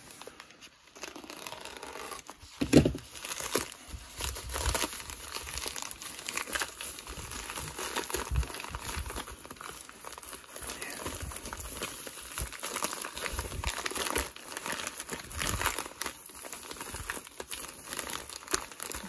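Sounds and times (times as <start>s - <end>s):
plastic mailer crinkling and tearing: 0.0s - 19.0s.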